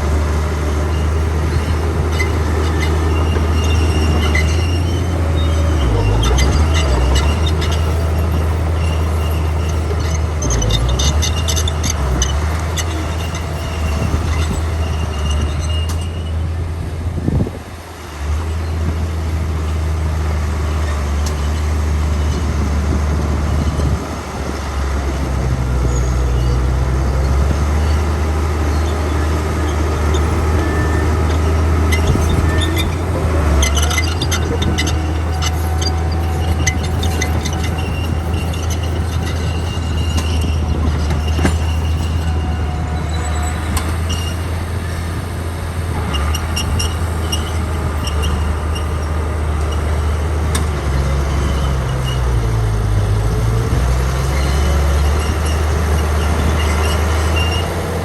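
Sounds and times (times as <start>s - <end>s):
diesel engines rumbling: 0.0s - 58.0s.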